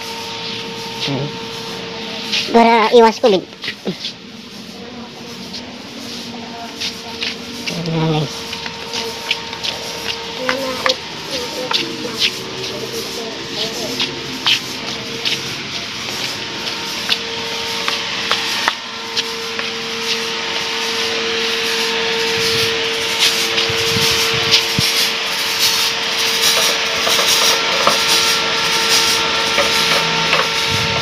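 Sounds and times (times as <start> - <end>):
fogging machine hissing: 0.0 - 31.0.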